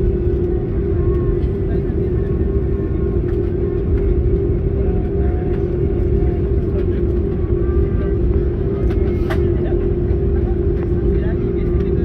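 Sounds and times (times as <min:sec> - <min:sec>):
airplane cabin low rumble: 0:00.0 - 0:12.0
constant hum: 0:00.0 - 0:12.0.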